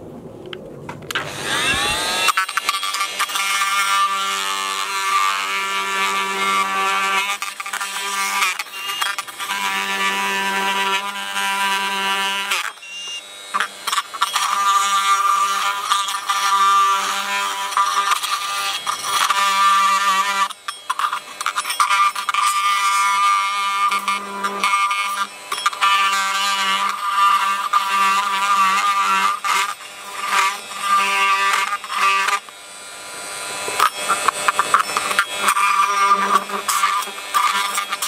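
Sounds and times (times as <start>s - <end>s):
oscillating multi-tool cutting plastic: 1.1s - 38.0s.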